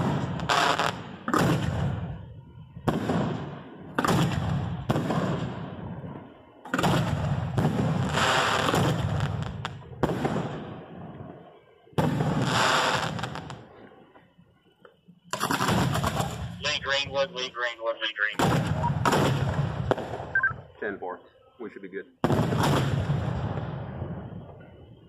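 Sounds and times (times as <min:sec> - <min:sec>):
fireworks bangs: 0:00.0 - 0:14.0, 0:15.3 - 0:20.4, 0:22.2 - 0:25.0.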